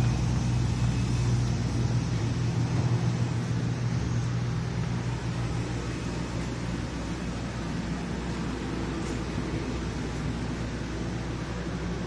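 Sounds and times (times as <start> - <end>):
machinery humming with airy hiss: 0.0 - 12.0.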